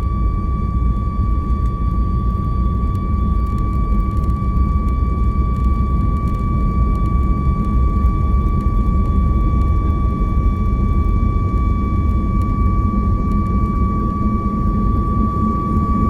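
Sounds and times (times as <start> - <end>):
high-pitched jet engine whine: 0.0 - 16.0
jet engine low rumble: 0.0 - 16.0.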